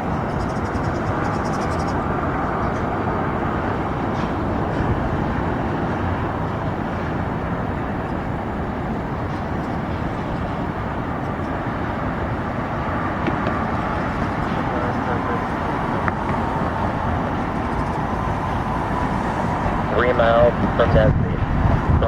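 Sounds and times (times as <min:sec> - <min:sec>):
jet engine roar: 0:00.0 - 0:22.0
traffic rumble: 0:00.0 - 0:22.0.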